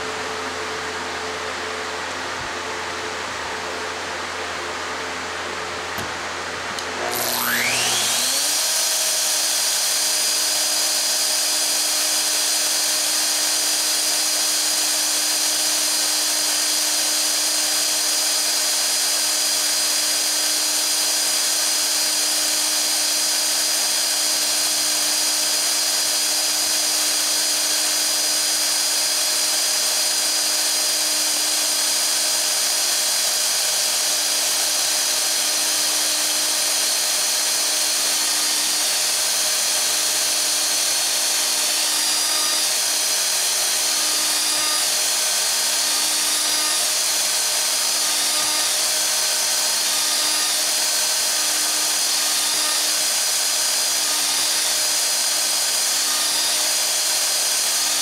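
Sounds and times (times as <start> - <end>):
router motor whine: 0.0 - 58.0.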